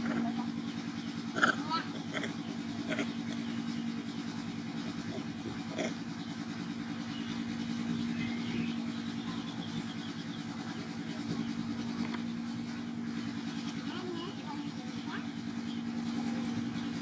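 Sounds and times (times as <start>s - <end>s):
small engine humming: 0.0s - 17.0s.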